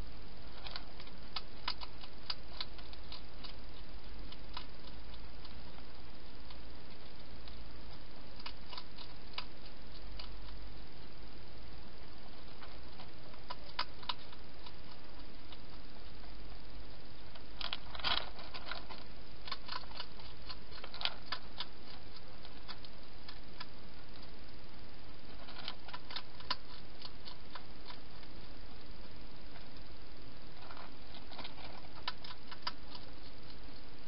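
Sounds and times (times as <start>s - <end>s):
background hiss: 0.0s - 34.0s
hedgehog chewing: 0.3s - 34.0s.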